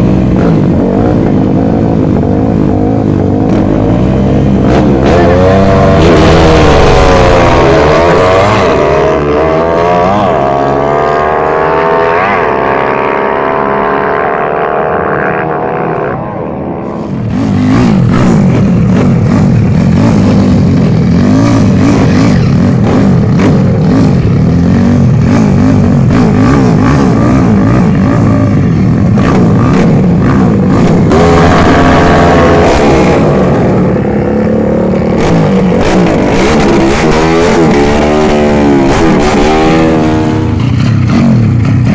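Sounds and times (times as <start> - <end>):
dense rough noise: 0.0 - 41.9
motorcycle engines at full throttle: 0.0 - 41.9.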